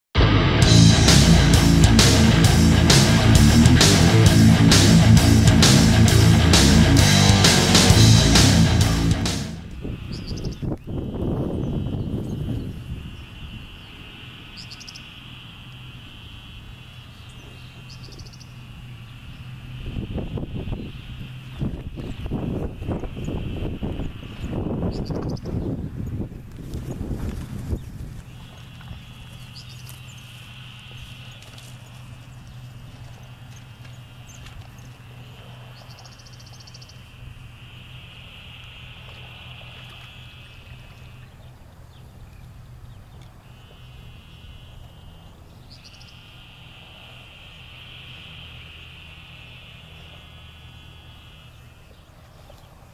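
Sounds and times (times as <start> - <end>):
high buzzy animal trills: 0.2 - 26.2, 27.8 - 52.9
steady low hum: 0.2 - 52.9
rapid clicking calls: 0.7 - 52.9.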